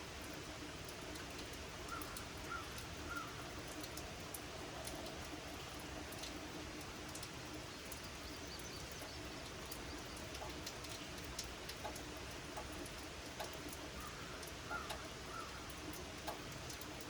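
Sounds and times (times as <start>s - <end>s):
light rain falling: 0.0s - 17.0s
sharp raindrop ticks: 0.0s - 17.0s.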